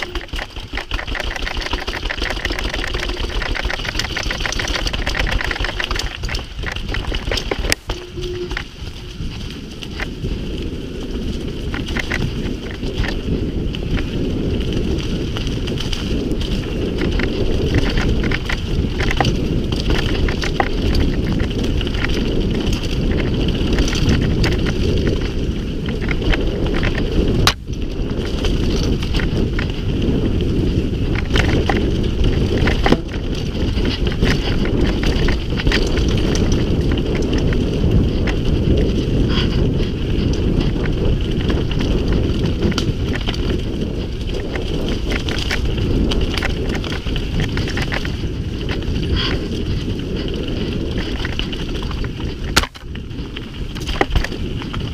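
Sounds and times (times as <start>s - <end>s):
bike rattling over stones: 0.0s - 54.9s
bike tyres rumbling on dirt: 0.0s - 54.9s
wind on microphone: 0.0s - 54.9s.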